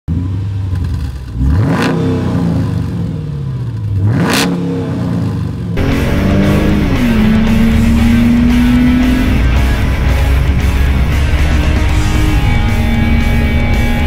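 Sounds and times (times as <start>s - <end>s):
car engine idling and revving: 0.1s - 14.0s.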